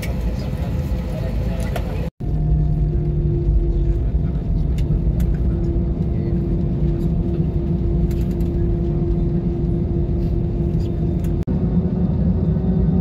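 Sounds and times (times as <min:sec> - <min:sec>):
engine hum: 0:00.0 - 0:13.0
wheels rumbling: 0:00.0 - 0:13.0.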